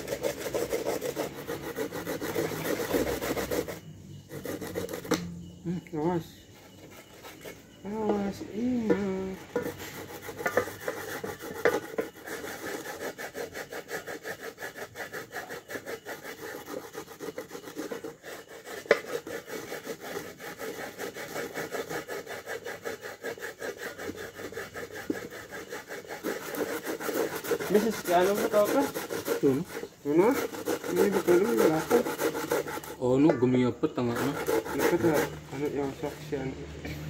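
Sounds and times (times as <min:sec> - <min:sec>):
coconut rasping on grater: 0:00.0 - 0:05.2, 0:06.7 - 0:36.5.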